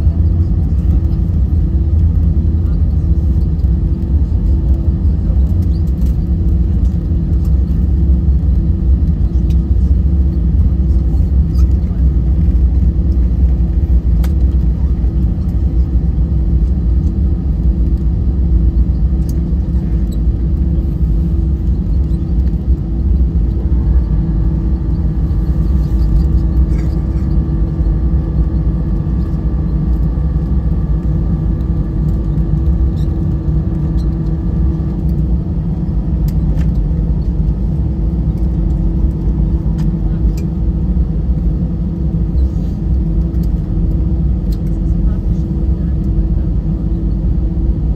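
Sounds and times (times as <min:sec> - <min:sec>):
airplane cabin engine rumble: 0:00.0 - 0:47.9.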